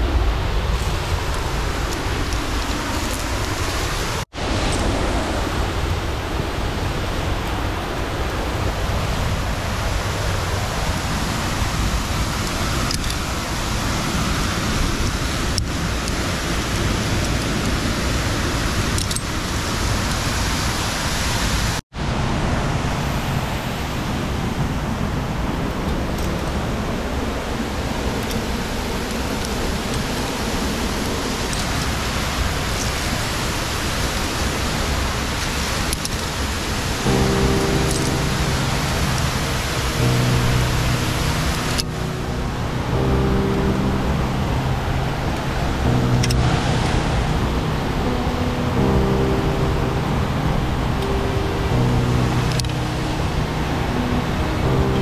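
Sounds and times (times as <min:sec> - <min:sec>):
waterfall roar: 0:00.0 - 0:55.0.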